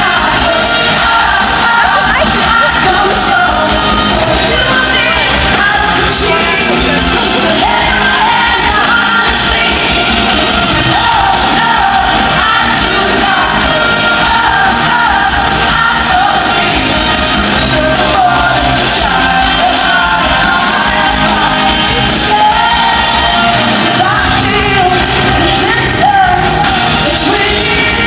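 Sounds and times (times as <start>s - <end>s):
pop-rock band playing: 0.0s - 28.0s
woman singing: 0.0s - 28.0s.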